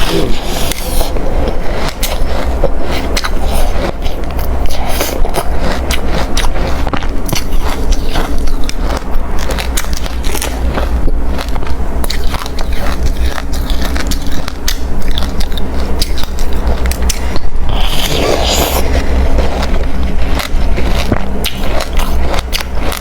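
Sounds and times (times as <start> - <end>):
chewing crushed ice: 0.0 - 23.0.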